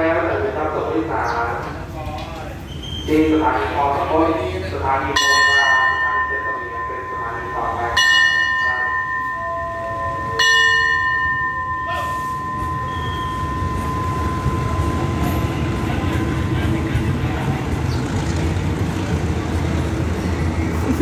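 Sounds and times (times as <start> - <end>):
station bell ringing: 3.6 - 21.0.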